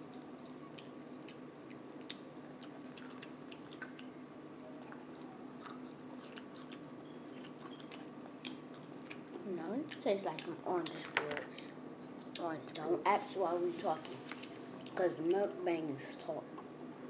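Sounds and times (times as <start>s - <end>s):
people chewing: 0.0s - 13.0s, 13.7s - 16.7s
steady low hum: 0.0s - 17.0s.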